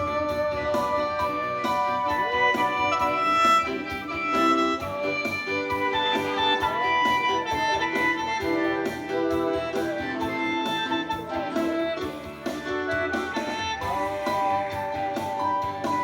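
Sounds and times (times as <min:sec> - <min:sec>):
instrumental music with steady beat: 0:00.0 - 0:16.0.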